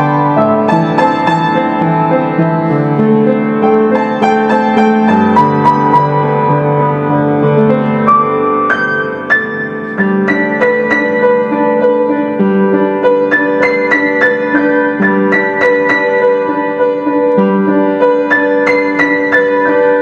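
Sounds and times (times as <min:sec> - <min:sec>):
piano playing chords: 0:00.0 - 0:20.0.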